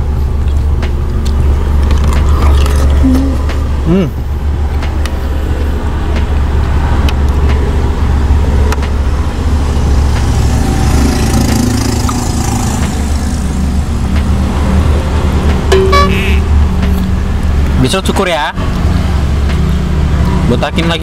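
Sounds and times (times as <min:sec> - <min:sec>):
car engine idling: 0:00.0 - 0:19.5.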